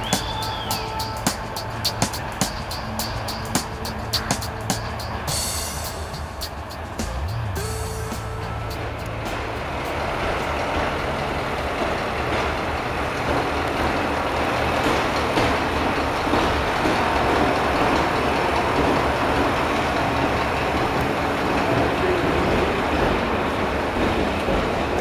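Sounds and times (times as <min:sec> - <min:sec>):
diesel locomotive rumbling: 0:00.0 - 0:25.0.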